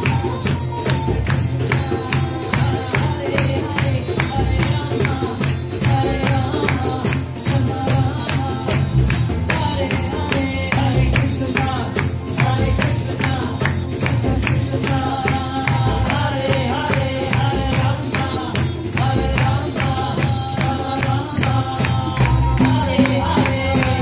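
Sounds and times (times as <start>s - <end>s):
cello: 0.0s - 24.0s
hand percussion beat: 0.0s - 24.0s
sitar: 0.0s - 24.0s
women chanting a devotional melody: 0.0s - 24.0s.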